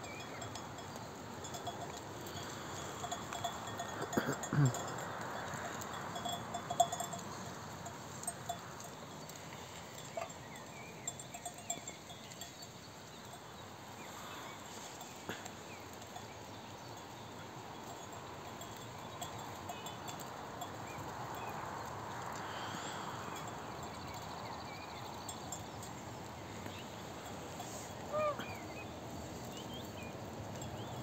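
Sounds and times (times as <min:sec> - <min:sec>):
sheep bells clinking: 0:00.0 - 0:31.0.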